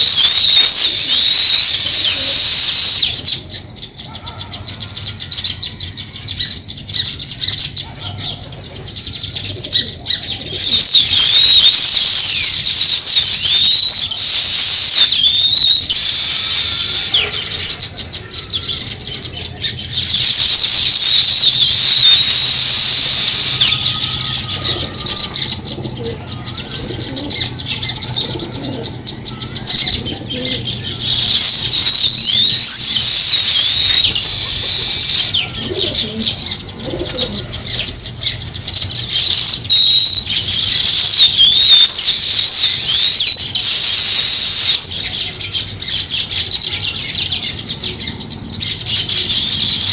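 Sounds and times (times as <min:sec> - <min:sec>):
sparrows chirping: 0:00.0 - 0:49.9.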